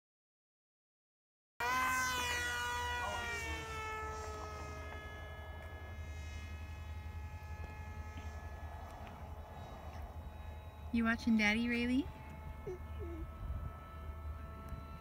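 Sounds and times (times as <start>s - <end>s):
high-pitched electric motor whine: 1.6s - 15.0s.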